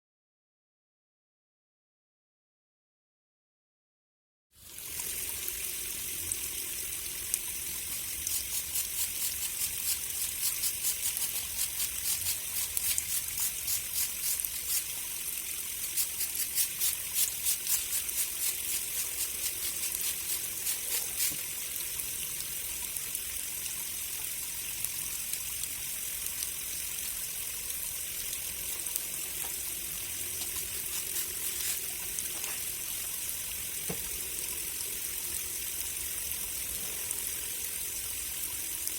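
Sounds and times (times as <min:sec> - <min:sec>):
water running and splashing: 0:04.7 - 0:38.9.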